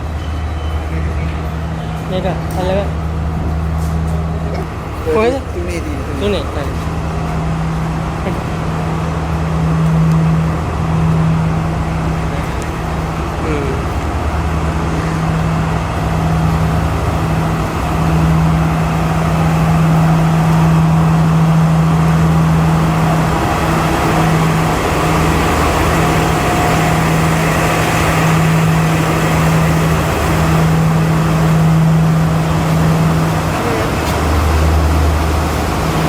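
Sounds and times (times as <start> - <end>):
train diesel engine humming: 0.0 - 36.0.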